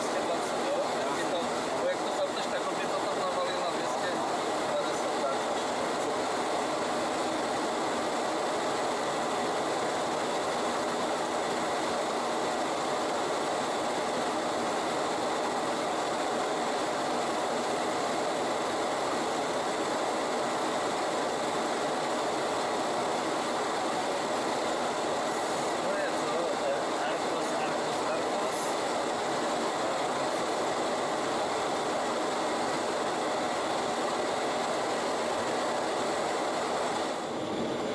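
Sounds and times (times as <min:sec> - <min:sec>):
air rushing over aircraft: 0:00.0 - 0:37.9
aircraft systems humming: 0:00.0 - 0:37.9.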